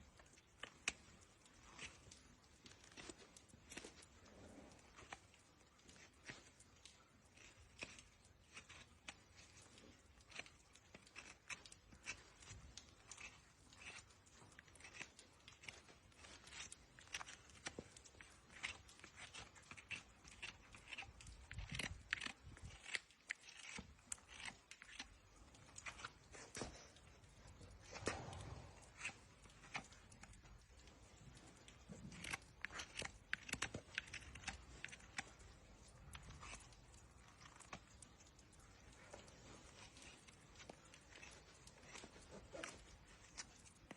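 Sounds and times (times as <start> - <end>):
hoof being scraped and snipped: 0.0 - 43.9.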